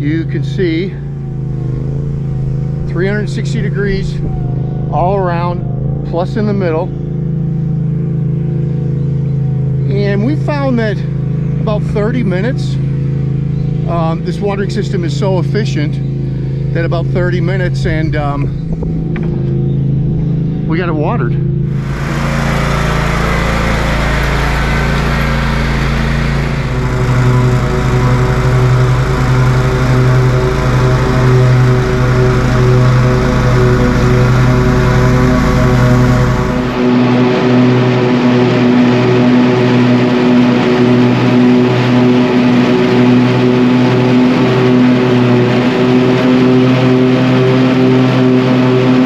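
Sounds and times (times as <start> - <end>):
lawn tractor engine mowing: 0.0 - 19.5, 21.6 - 49.0.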